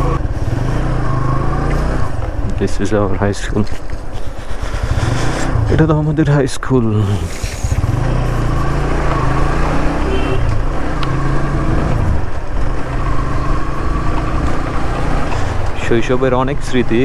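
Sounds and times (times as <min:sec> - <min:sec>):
motorcycle engine revving: 0:00.0 - 0:06.2, 0:06.9 - 0:17.0
wind and road noise: 0:00.0 - 0:17.0.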